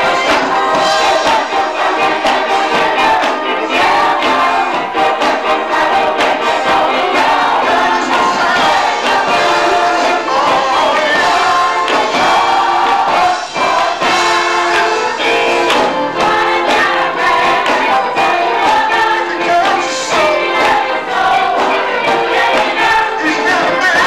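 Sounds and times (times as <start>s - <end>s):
gospel choir singing: 0.0s - 24.0s.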